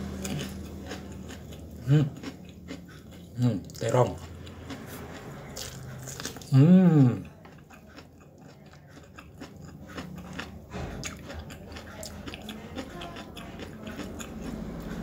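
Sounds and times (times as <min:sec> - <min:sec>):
man chewing: 0:00.0 - 0:15.0.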